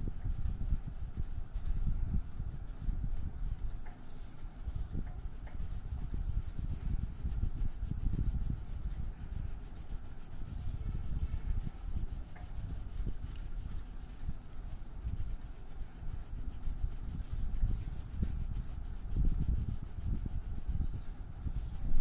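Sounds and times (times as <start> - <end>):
shading strokes rubbing on paper: 0.0 - 22.0.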